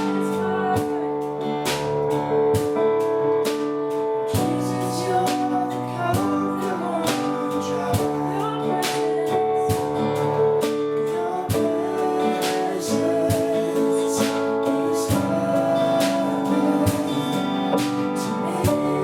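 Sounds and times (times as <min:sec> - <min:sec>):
gospel worship song: 0:00.0 - 0:19.0.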